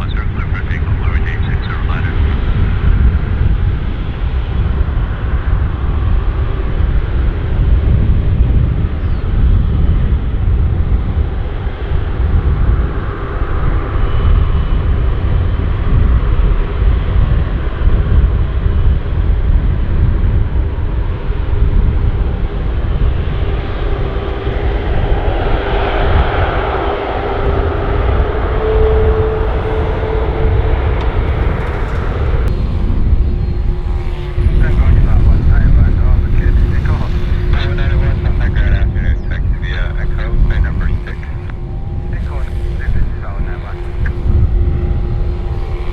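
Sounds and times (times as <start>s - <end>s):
jet engines rumbling: 0.0s - 45.9s
rising engine whine: 0.0s - 45.9s.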